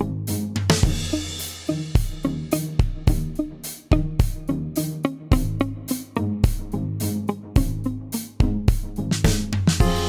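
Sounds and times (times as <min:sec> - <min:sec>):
drum kit beat: 0:00.0 - 0:10.0.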